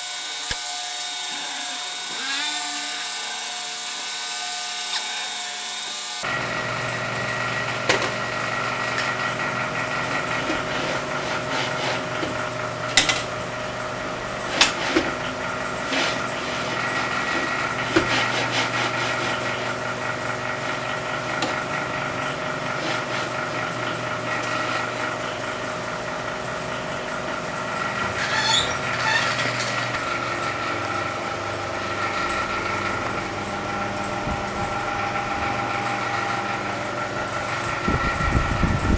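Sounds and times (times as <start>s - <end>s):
three d printer motors whining: 0.0s - 38.9s.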